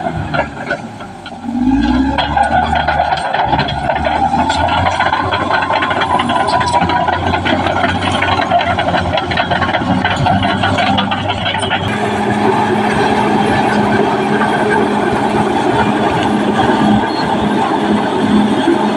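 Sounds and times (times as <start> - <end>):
diesel engine under load: 0.0 - 18.9
steel tracks clattering: 0.0 - 18.9.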